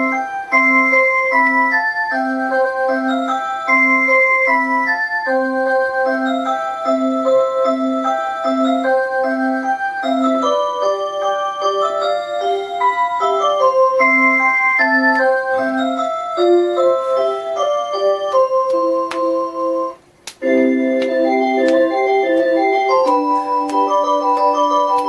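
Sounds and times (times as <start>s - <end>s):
musical clock electronic melody: 0.0s - 25.0s.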